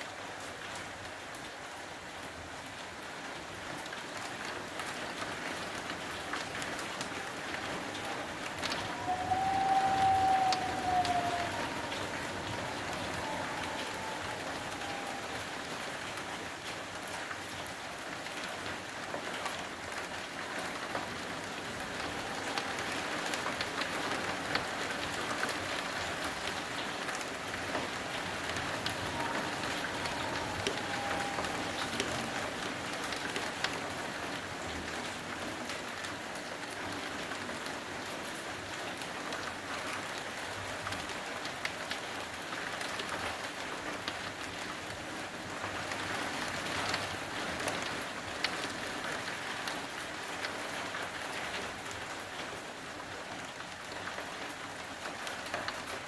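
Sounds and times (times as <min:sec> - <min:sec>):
raindrops ticking on a surface: 0:00.0 - 0:56.0
steady rain falling: 0:00.0 - 0:56.0.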